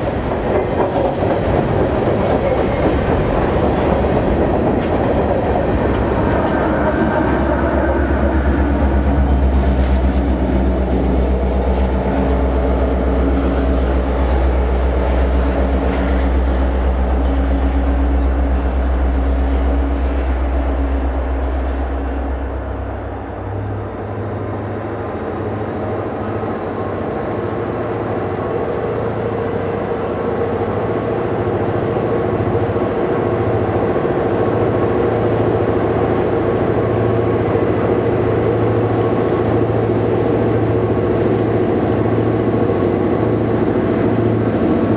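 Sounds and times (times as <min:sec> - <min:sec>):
diesel locomotive engine rumble: 0:00.0 - 0:44.9.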